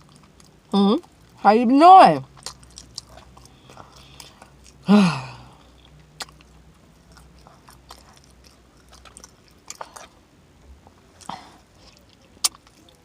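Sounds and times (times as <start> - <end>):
person chewing and lip smacking: 0.0 - 1.4, 2.3 - 10.2, 10.8 - 13.0.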